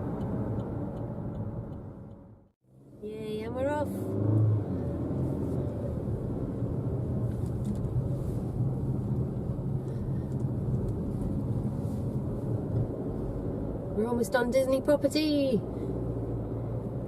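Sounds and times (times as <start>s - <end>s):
car engine hum: 0.0s - 17.0s
road and tyre noise: 0.0s - 17.0s.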